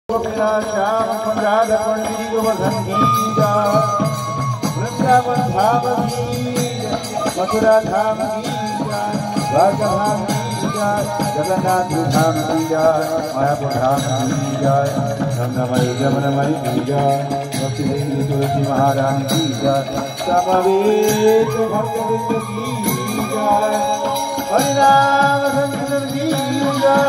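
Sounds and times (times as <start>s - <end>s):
hand cymbals jingling: 0.1s - 27.0s
percussion keeping time: 0.1s - 27.0s.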